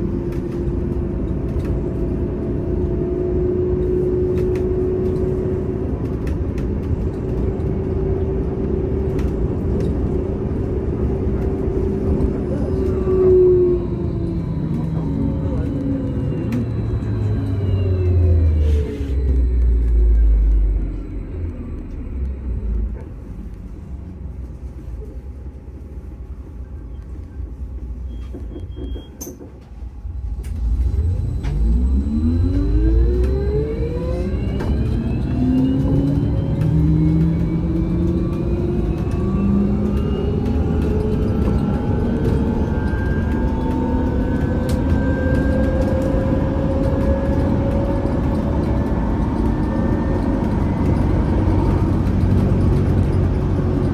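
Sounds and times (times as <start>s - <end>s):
trolleybus electric motor whine: 0.0s - 53.9s.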